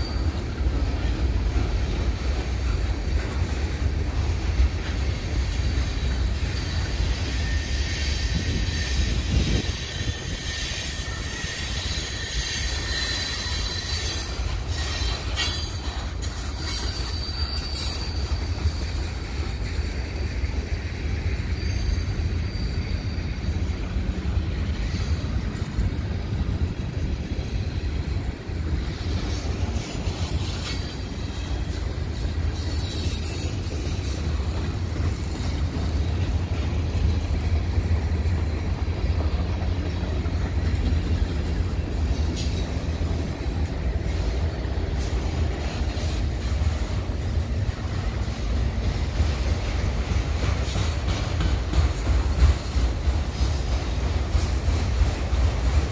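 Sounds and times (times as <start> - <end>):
high wheel squeal: 0.0 - 26.7, 27.6 - 55.0
steel wheels rumbling on rail: 0.0 - 55.9.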